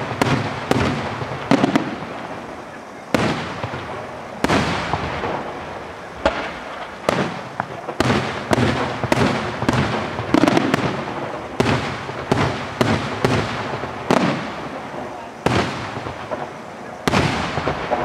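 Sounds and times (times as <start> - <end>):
fireworks bursting with echo: 0.0 - 18.0.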